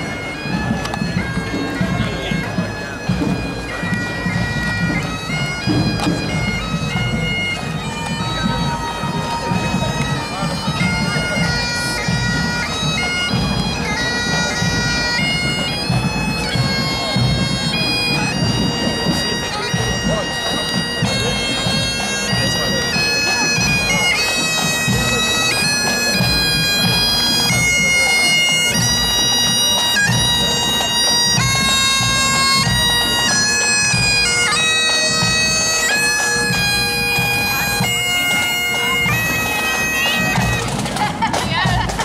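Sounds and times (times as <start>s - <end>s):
bagpipes playing a tune: 0.0s - 42.0s.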